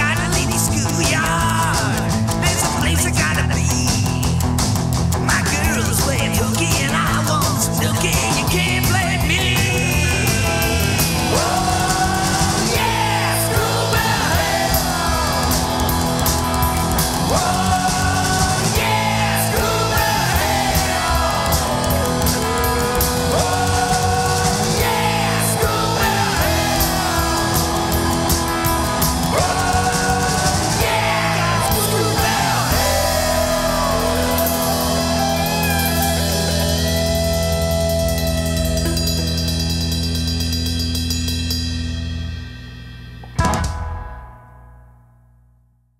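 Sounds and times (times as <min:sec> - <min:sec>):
sustained rock band backing: 0:00.0 - 0:44.8.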